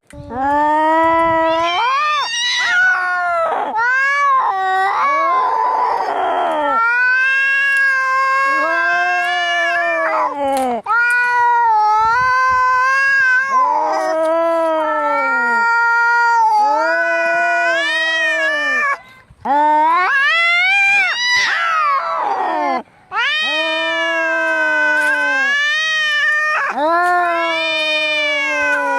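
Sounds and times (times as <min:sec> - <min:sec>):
cats yowling in a fight: 0:00.4 - 0:19.0, 0:19.6 - 0:28.9.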